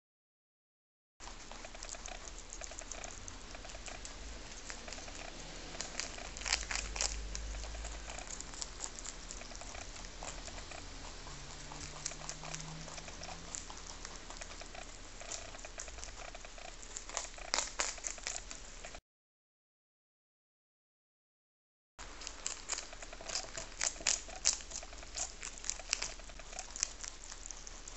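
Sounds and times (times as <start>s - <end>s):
rabbits crunching cabbage: 1.2s - 19.0s, 22.0s - 27.9s.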